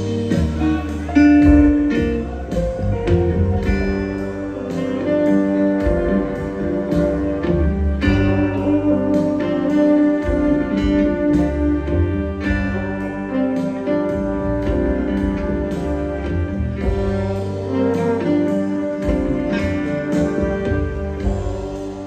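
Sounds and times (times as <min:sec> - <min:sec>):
guitar lines: 0:00.0 - 0:22.0
live band playing instrumental: 0:00.0 - 0:22.0.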